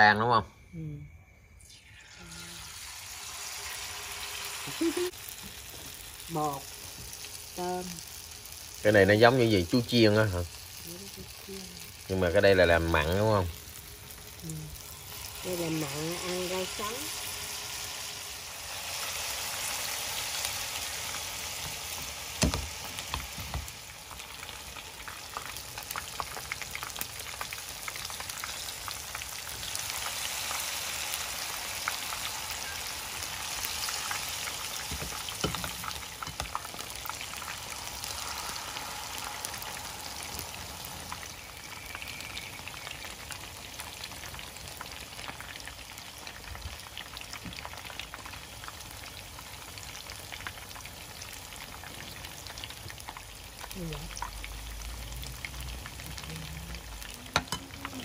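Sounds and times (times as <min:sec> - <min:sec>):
food deep-frying in hot oil: 0:01.5 - 0:58.0.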